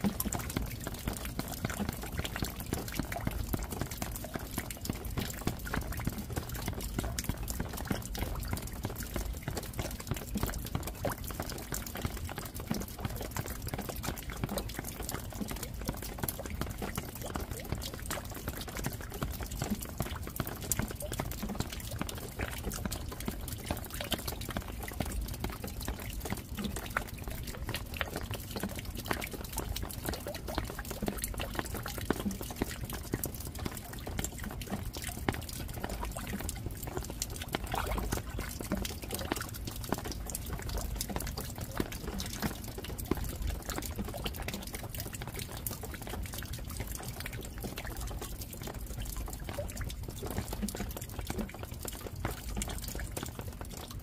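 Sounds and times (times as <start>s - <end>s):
steady rain falling: 0.0s - 49.4s.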